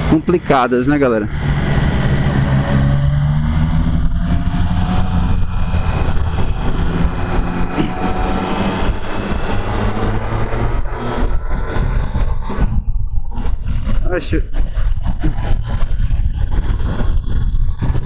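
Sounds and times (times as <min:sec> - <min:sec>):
motorcycle engine running: 0:00.0 - 0:18.0
wind rush over microphone: 0:00.0 - 0:18.0.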